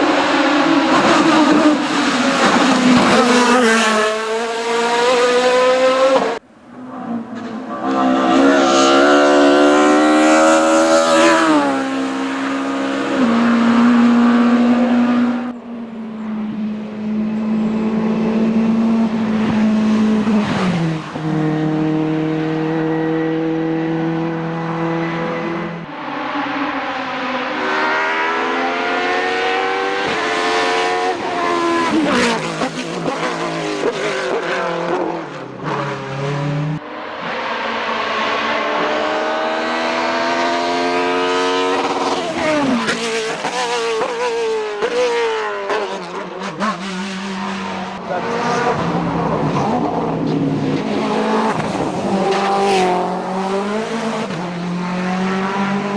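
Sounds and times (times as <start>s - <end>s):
race car engine accelerating: 0.1s - 6.4s, 16.4s - 55.9s.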